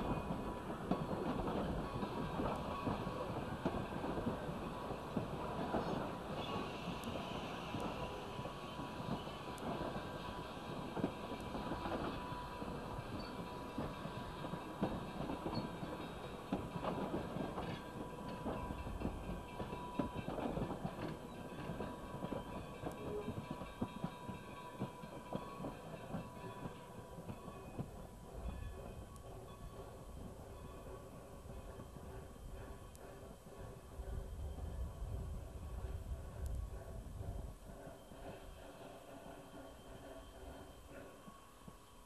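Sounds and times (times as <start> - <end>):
passenger train rumbling past: 0.0 - 42.0.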